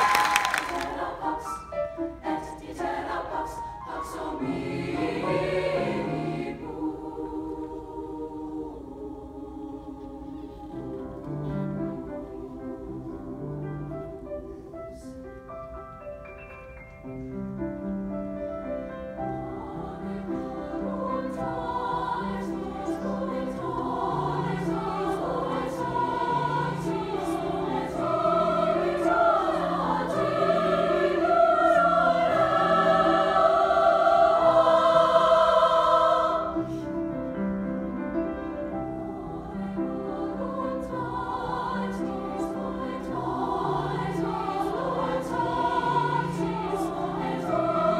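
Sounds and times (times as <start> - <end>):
women's choir singing: 0.0 - 15.1, 19.1 - 47.9
grand piano accompaniment: 0.0 - 47.9.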